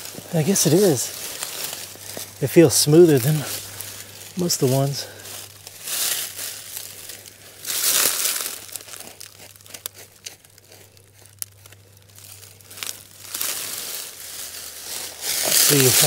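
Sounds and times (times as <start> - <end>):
soil and leaves rustling and scraping: 0.0 - 16.0.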